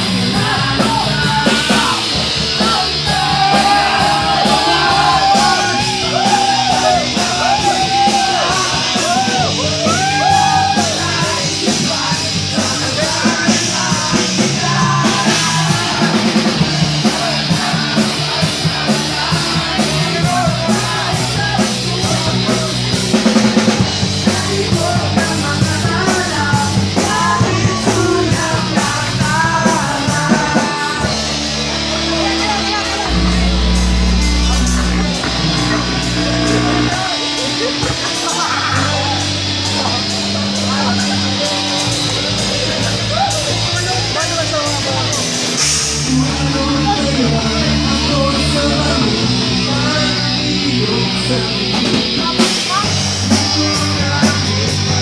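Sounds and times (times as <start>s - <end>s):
electric guitar: 0.0s - 55.0s
live rock band playing: 0.0s - 55.0s
voices singing and shouting: 0.0s - 55.0s.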